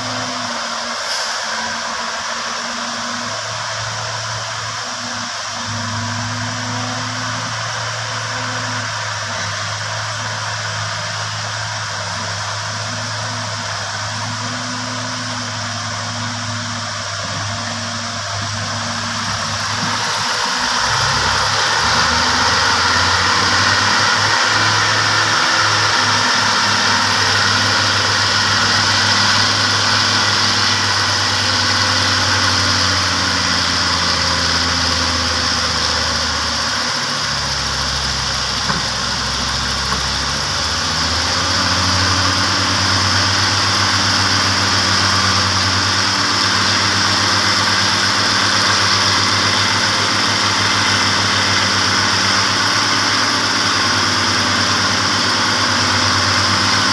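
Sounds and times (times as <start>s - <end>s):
diesel truck engine at low revs: 0.0s - 56.9s
steady hiss: 0.0s - 56.9s.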